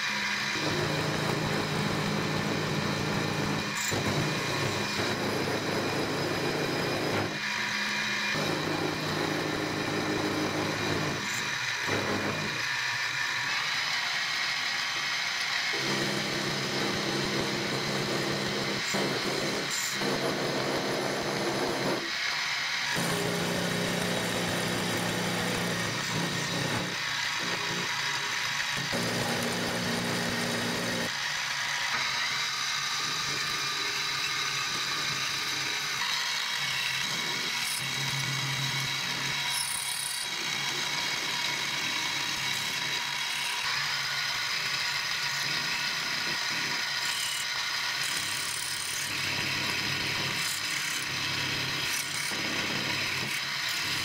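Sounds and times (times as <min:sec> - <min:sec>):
end mill cutting metal: 0:00.0 - 0:54.0
milling machine whine: 0:00.0 - 0:54.0.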